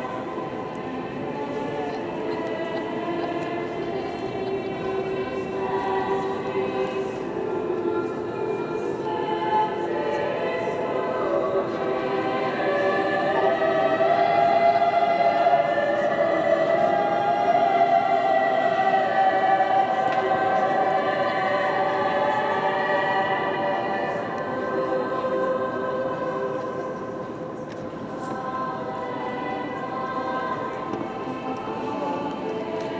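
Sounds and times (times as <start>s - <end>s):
girls' choir singing: 0.0s - 32.9s.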